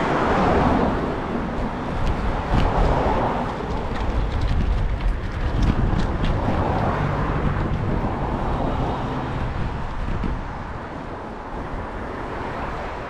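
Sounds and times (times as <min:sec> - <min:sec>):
bicycle tyres on wet road: 0:00.0 - 0:13.0
wind rushing over microphone: 0:00.0 - 0:13.0.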